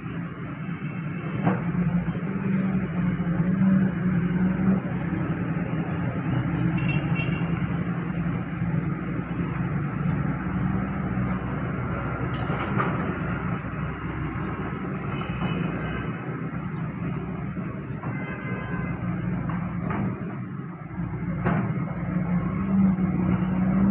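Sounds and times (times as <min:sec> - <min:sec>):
heavy diesel engine under load: 0:00.0 - 0:23.9.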